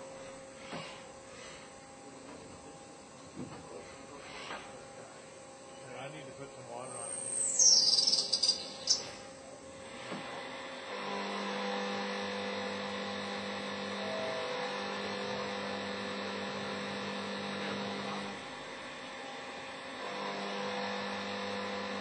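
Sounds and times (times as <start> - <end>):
machine steady hum: 0.0 - 22.0.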